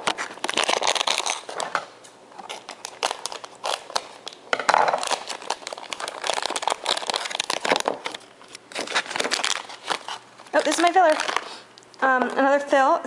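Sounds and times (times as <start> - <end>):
foil wrapper crinkling: 0.0 - 11.8.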